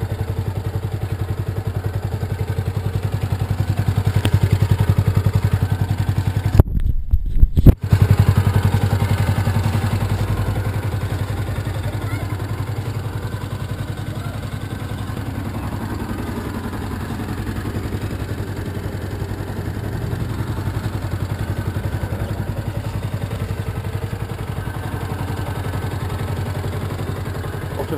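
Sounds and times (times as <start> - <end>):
motorcycle engine idling: 0.0 - 6.6, 7.7 - 27.9.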